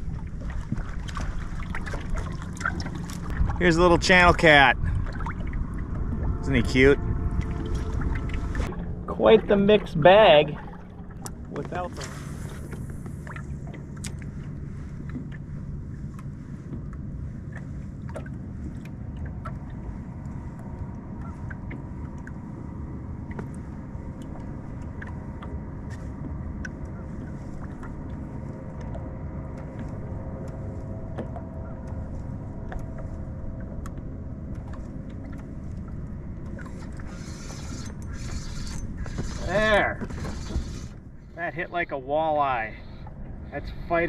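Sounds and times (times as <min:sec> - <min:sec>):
faint hum: 0:00.0 - 0:44.0
low rumble: 0:00.0 - 0:44.0.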